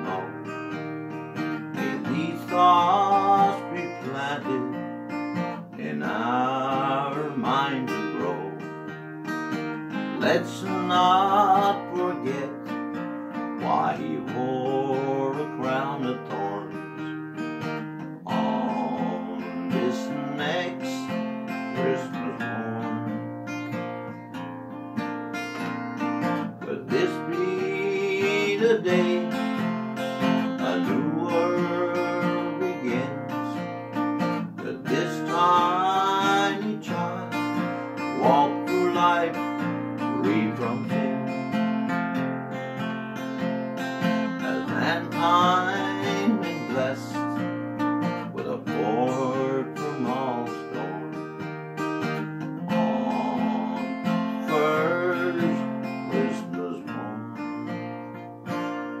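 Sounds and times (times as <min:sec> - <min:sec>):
acoustic guitar strummed and picked: 0:00.0 - 0:59.0.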